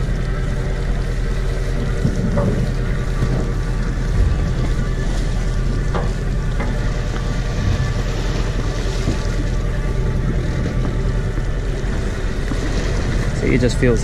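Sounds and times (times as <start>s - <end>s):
boat engine humming: 0.0s - 14.0s
water against hull: 0.0s - 14.0s
wind: 0.0s - 14.0s.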